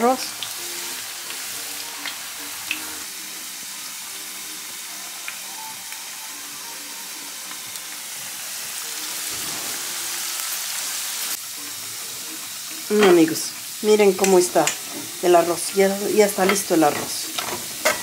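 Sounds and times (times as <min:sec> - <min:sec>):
potato wedges sizzling in oil: 0:00.0 - 0:18.0.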